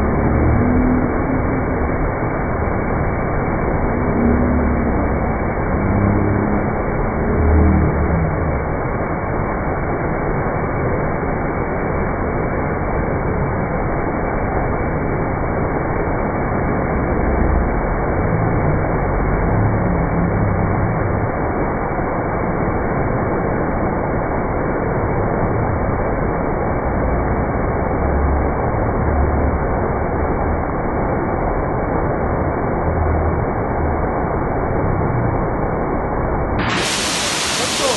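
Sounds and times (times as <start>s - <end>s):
waterfall roaring: 0.0s - 37.9s.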